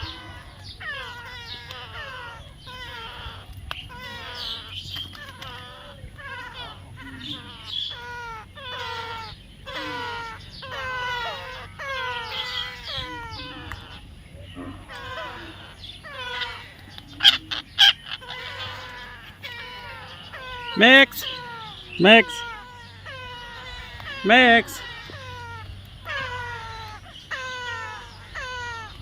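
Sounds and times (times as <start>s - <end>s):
parrot squawking: 0.0s - 29.0s.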